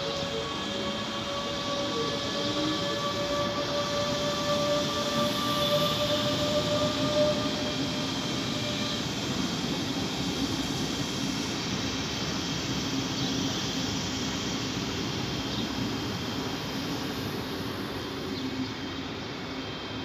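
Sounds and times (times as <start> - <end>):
train rolling past: 0.0 - 20.0.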